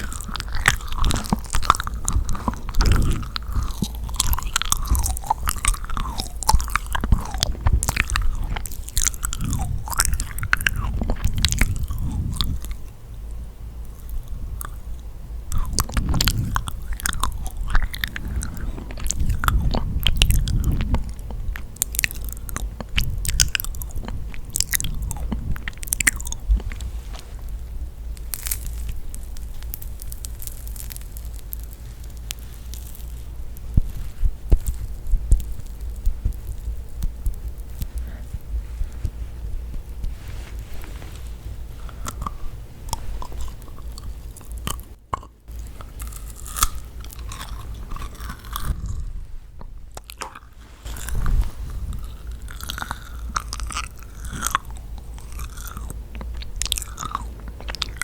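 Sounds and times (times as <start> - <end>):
chewing sticky cookie: 0.0 - 13.0, 13.8 - 58.0.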